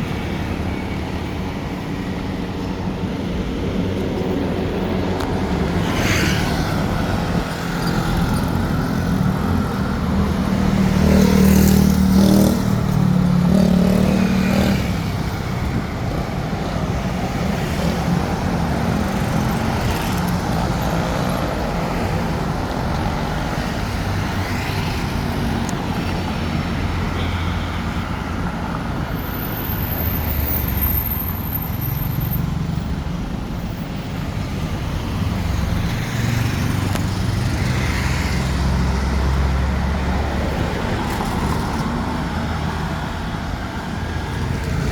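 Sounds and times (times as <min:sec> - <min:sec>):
road traffic: 0:00.0 - 0:44.9.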